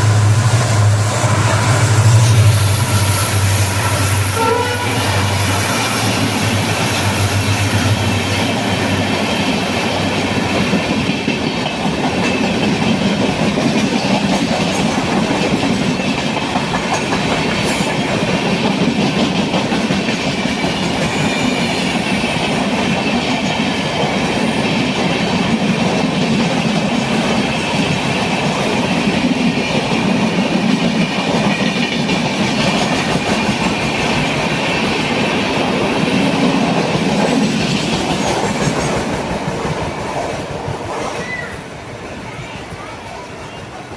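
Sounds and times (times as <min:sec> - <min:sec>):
train coaches rushing past: 0:00.0 - 0:43.9.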